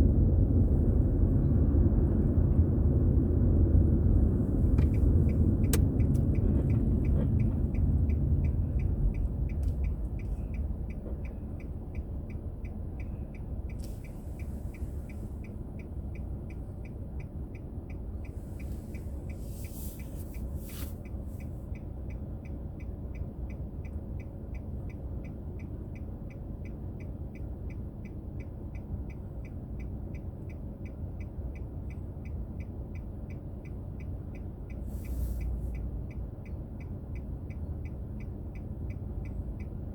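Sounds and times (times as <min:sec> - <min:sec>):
car road hum: 0:00.0 - 0:39.9
turn signal ticking: 0:00.0 - 0:39.9.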